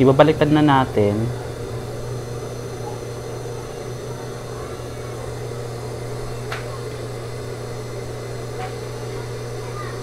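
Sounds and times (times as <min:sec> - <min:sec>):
electric motor humming: 0:00.0 - 0:10.0.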